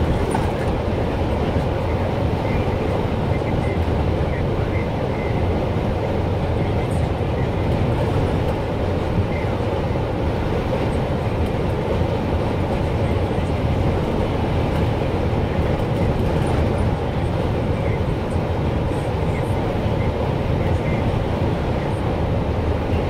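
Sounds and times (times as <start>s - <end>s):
tyres rumbling on asphalt: 0.0s - 23.0s.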